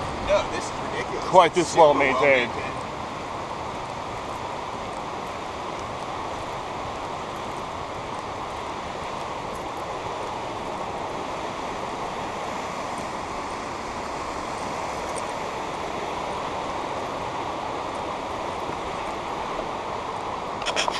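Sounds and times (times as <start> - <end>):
fast-flowing creek: 0.0 - 20.9.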